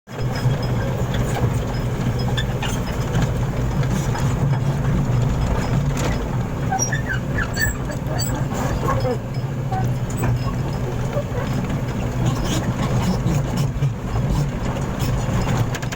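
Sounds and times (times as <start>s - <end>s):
truck engine idling: 0.2s - 15.9s.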